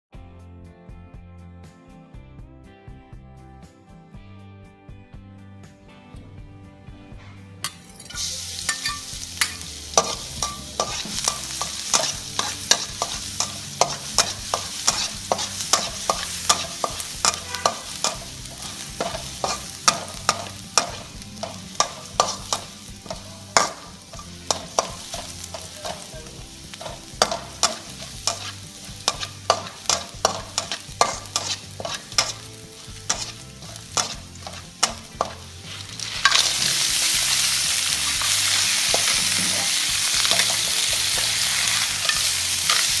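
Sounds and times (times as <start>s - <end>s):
metal spatula scraping a wok: 7.1s - 43.0s
garlic sizzling in a wok: 7.6s - 43.0s.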